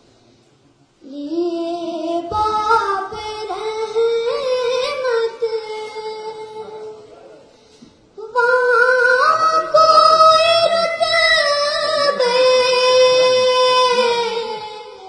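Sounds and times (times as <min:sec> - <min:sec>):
boy singing: 0:01.0 - 0:07.1, 0:08.2 - 0:15.0.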